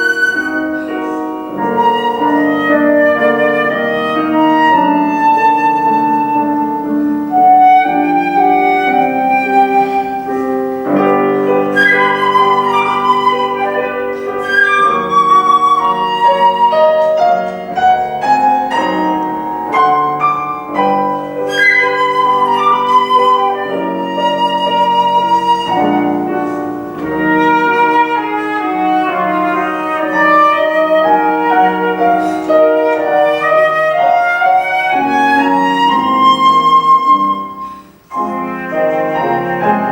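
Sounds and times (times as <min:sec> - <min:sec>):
flute melody with vibrato: 0:00.0 - 0:39.9
piano accompaniment: 0:00.0 - 0:39.9.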